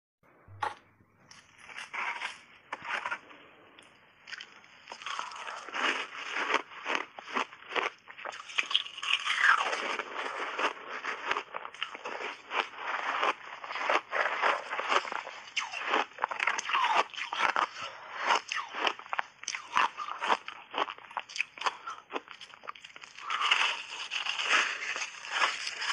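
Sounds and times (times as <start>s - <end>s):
ice being chewed: 3.8s - 25.9s.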